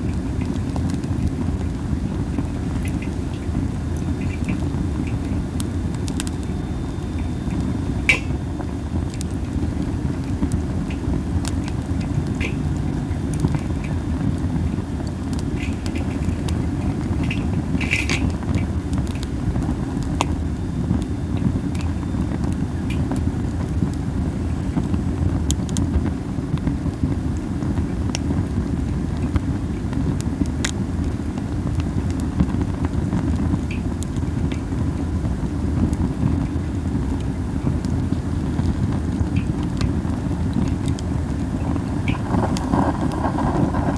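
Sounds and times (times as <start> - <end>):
fire hiss: 0.0 - 43.9
wind rumble on microphone: 0.0 - 43.9
wood fire crackling and popping: 0.0 - 43.9.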